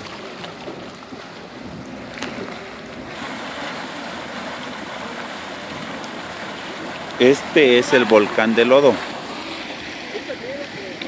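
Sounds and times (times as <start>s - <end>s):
hot spring water churning: 0.0s - 11.0s
windy rush: 0.0s - 11.0s.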